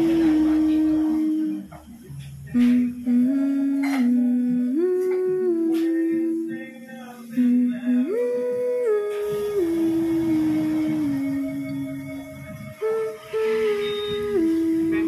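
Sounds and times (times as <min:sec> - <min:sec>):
slow sliding melody: 0:00.0 - 0:15.0.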